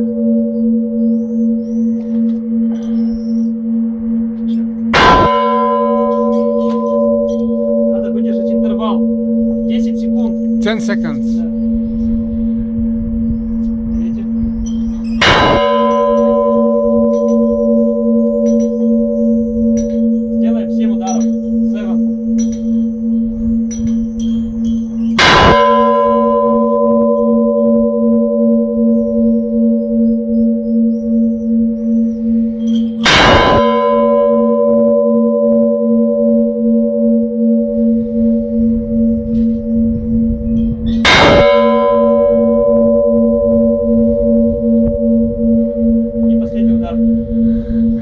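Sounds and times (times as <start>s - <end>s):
large church bell clanging: 0.0s - 48.0s
low bell hum: 0.0s - 48.0s.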